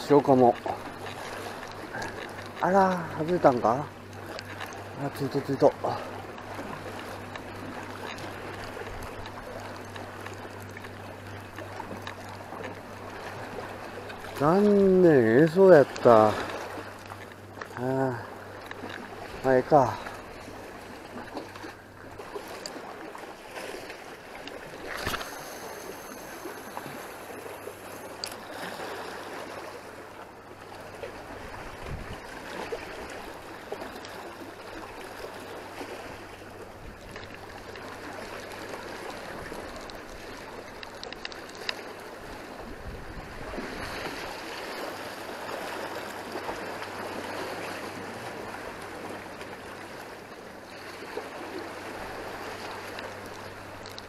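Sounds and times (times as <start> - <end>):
sea water lapping on blocks: 0.0 - 54.0.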